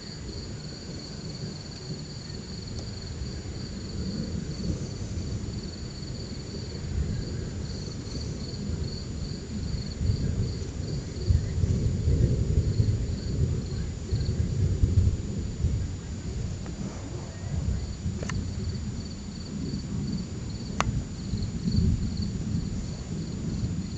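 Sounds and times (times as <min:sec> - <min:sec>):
insects chirping: 0:00.0 - 0:14.6, 0:16.6 - 0:23.9
thunder rumbling: 0:00.0 - 0:23.9.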